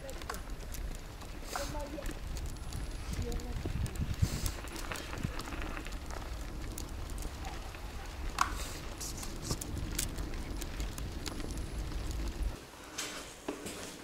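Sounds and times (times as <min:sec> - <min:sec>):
wire basket clicks and crackles: 0:00.0 - 0:12.6
bicycle rolling over snow: 0:00.0 - 0:14.0.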